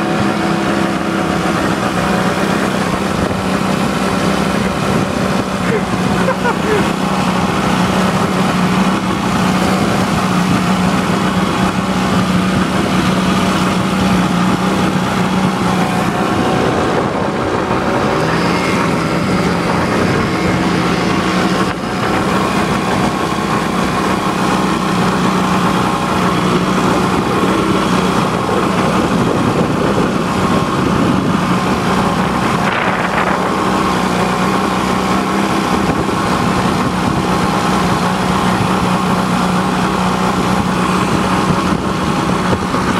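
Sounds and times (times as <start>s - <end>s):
boat engine running: 0.0s - 42.9s
water rushing against hull: 0.0s - 42.9s.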